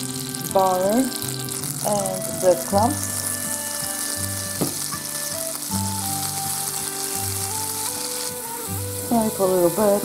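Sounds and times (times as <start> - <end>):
butter sizzling in a frying pan: 0.0 - 10.0
soft background music: 0.0 - 10.0.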